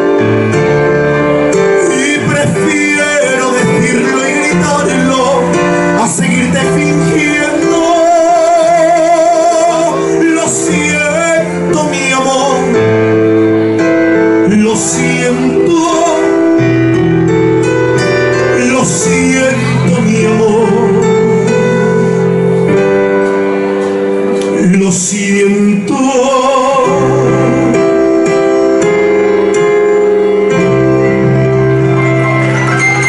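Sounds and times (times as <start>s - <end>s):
electronic keyboard chords and bass: 0.0s - 33.0s
man singing into a microphone: 1.4s - 30.4s.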